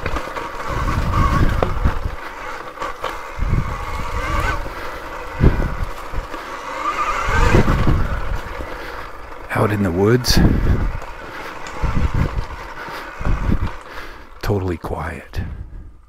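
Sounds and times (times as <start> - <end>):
electric motor and gear whine: 0.0 - 15.3
tyres rolling on leaves and dirt: 0.0 - 15.3.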